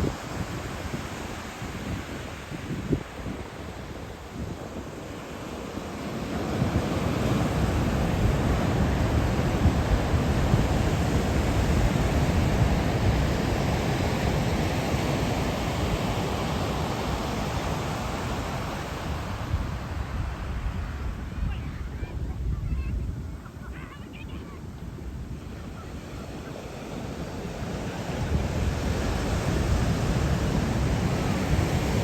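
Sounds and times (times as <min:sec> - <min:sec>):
rough surf: 0:00.0 - 0:32.0
wind buffeting microphone: 0:00.0 - 0:32.0.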